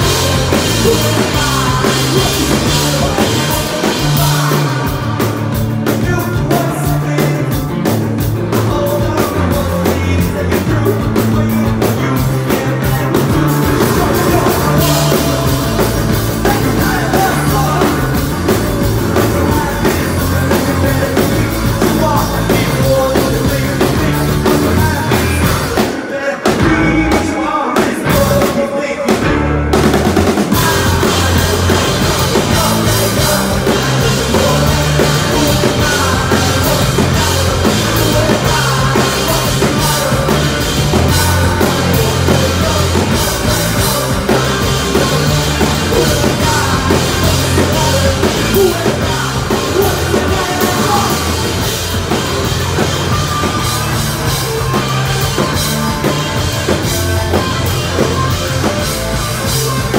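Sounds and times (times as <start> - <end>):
live rock band playing: 0.0 - 59.9
pounding drum kit: 0.0 - 59.9.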